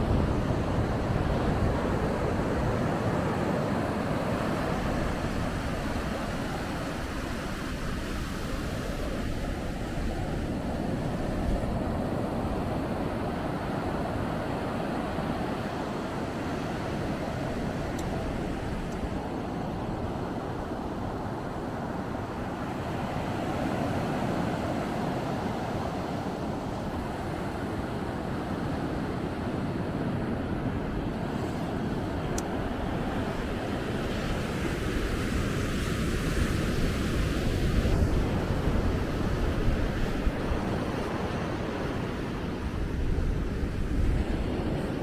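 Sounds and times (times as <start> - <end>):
ocean surf breaking: 0.0 - 45.0
wind buffeting microphone: 0.0 - 45.0.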